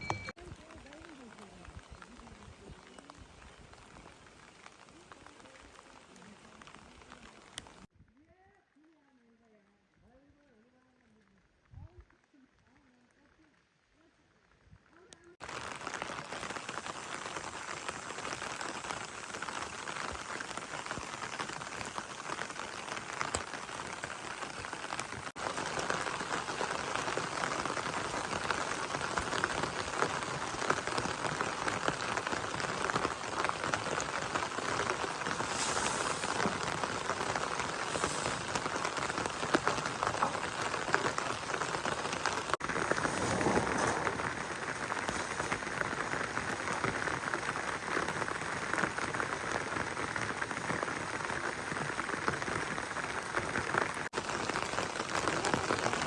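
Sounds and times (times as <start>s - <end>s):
raindrop hits: 0.0s - 7.9s, 15.4s - 56.0s
steady rain falling: 0.0s - 7.9s, 15.4s - 56.0s.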